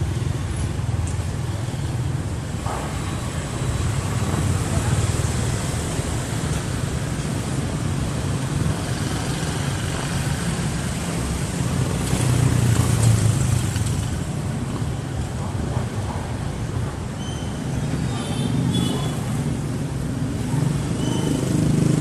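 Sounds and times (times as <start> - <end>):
bike road noise: 0.0 - 22.0.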